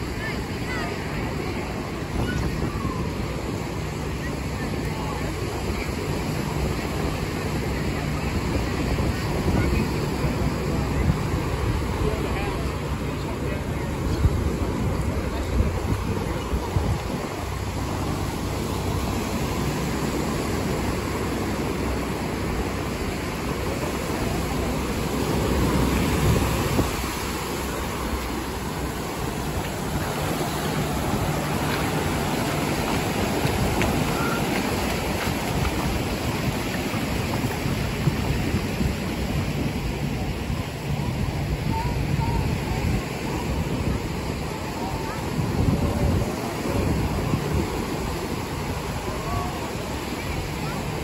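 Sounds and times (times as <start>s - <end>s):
ocean surf breaking on sand: 0.0s - 51.0s
wind rumbling on microphone: 0.0s - 51.0s.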